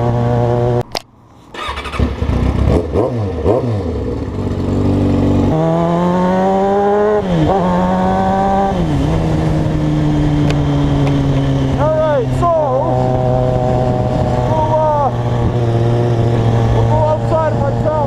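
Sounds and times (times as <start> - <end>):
motorcycle engine accelerating: 0.0 - 0.9, 1.5 - 18.0.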